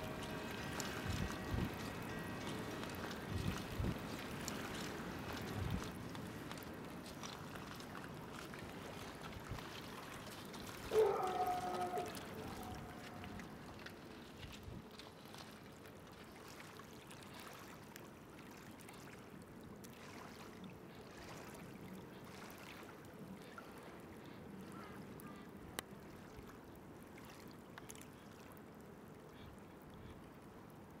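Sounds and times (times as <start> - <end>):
water lapping on pebbles: 0.0 - 24.1, 25.8 - 28.6.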